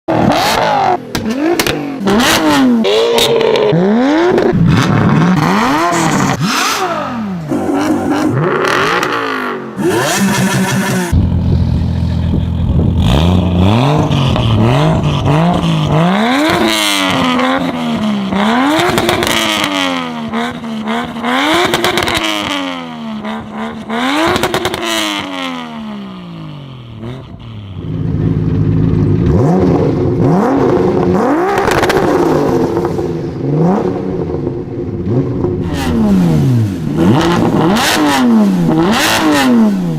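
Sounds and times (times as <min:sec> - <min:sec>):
car engines revving: 0:00.1 - 0:39.9.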